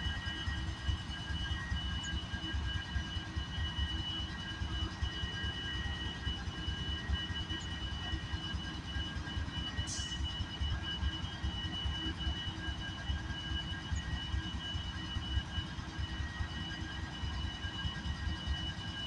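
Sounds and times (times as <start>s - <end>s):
high-pitched whine: 0.0s - 19.0s.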